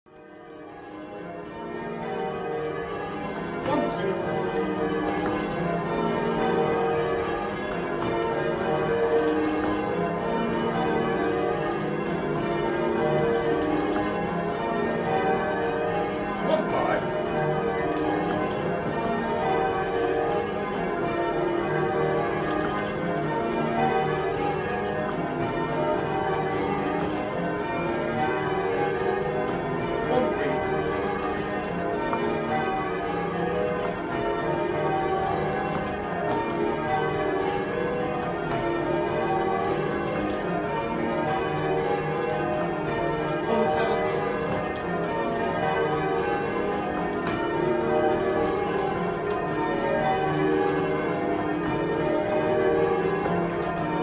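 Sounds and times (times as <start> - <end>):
bells ringing: 0.1 - 54.0.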